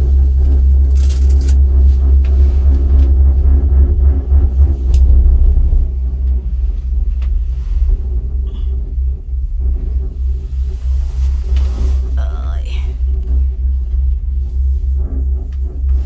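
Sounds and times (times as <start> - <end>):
gondola cabin rumbling: 0.0 - 16.0.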